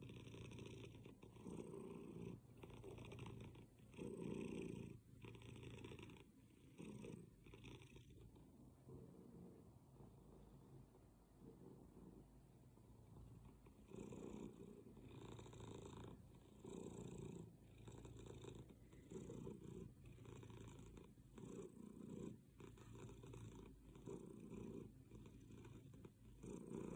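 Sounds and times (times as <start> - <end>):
cat purring faintly: 0.0 - 26.9.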